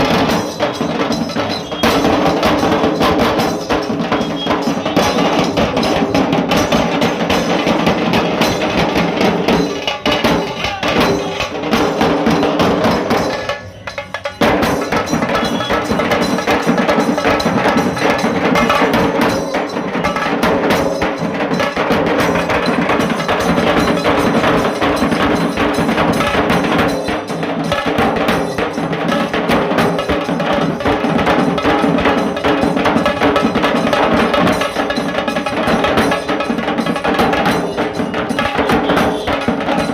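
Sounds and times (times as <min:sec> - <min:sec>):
drum band playing fast rhythm: 0:00.0 - 0:39.9.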